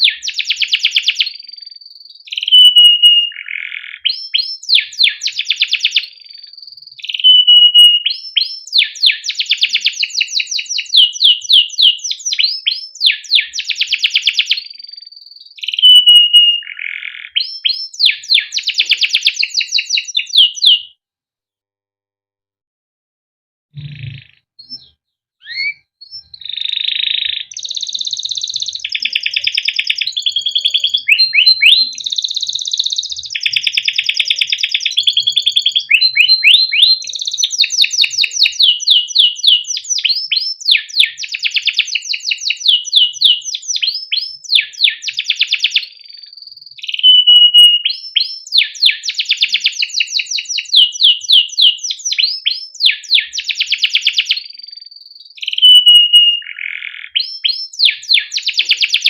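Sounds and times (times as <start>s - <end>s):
canary singing: 0.0s - 21.0s, 23.8s - 59.0s.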